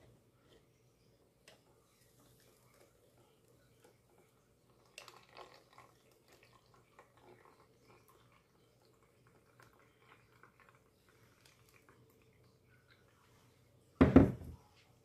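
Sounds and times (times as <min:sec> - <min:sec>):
small drips and ticks: 0:01.4 - 0:13.8
juice pouring through strainer: 0:01.5 - 0:13.8.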